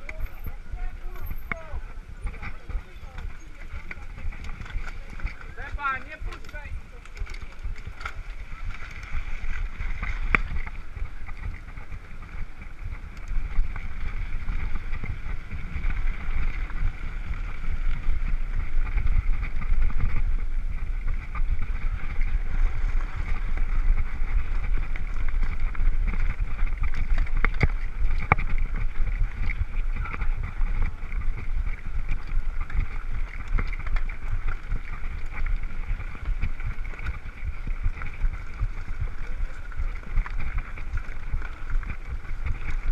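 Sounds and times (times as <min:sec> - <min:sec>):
bike rattling: 0:00.0 - 0:42.9
bike tyres on gravel: 0:00.0 - 0:42.9
wind rumbling on microphone: 0:00.0 - 0:42.9.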